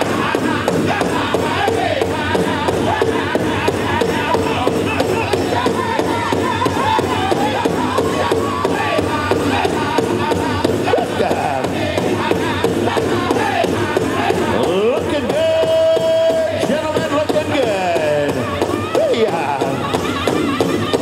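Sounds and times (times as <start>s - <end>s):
large drum beats: 0.0s - 21.0s
men singing in high voices: 0.0s - 21.0s.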